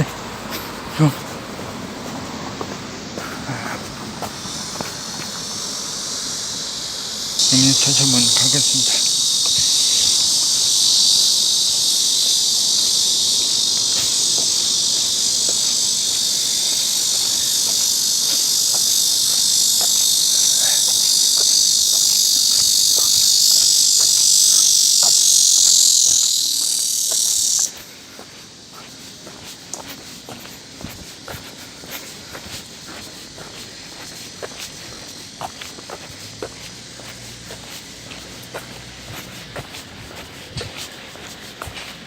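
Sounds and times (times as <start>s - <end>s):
cicadas singing: 0.0s - 42.0s.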